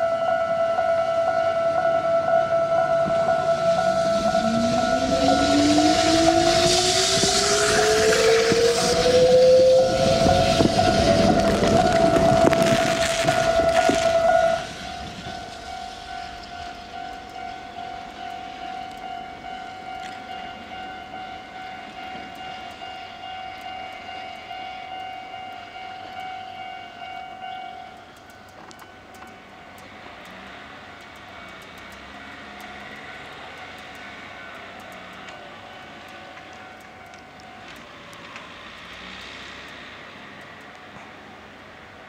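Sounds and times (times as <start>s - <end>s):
electric train pulling away: 0.0s - 42.0s
level-crossing warning bell: 0.0s - 42.0s.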